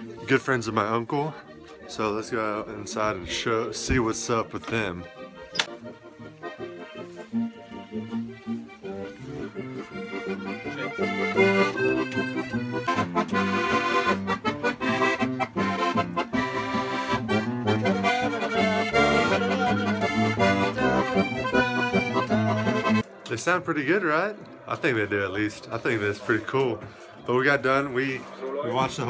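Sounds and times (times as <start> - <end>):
accordion folk tune: 0.0 - 29.0.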